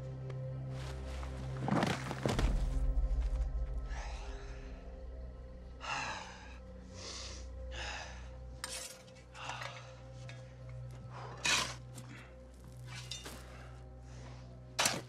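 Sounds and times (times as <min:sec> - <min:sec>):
low steady drone: 0:02.5 - 0:15.0.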